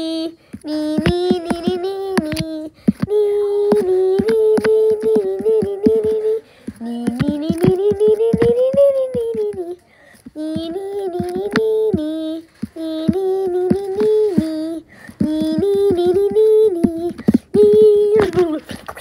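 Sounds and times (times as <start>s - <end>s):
boy humming a tune: 0.0s - 19.0s.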